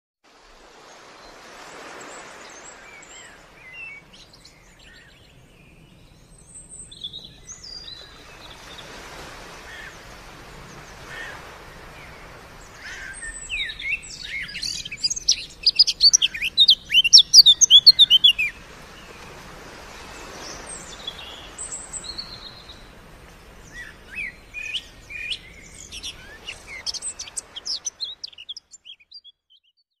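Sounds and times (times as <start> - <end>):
songbirds chirping and trilling: 0.8 - 29.8.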